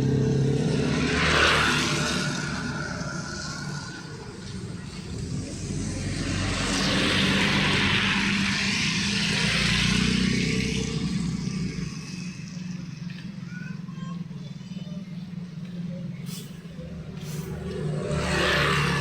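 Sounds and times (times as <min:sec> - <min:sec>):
vehicle passing by: 0:00.0 - 0:19.0.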